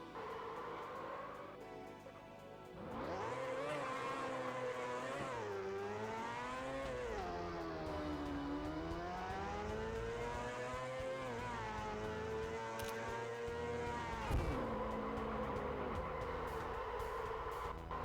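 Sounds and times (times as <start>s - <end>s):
motorcycle engine revving high: 2.8s - 18.0s.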